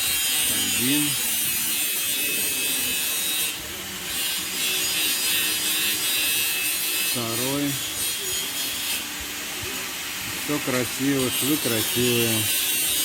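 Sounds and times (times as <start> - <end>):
power tool grinding hiss: 0.0 - 13.0.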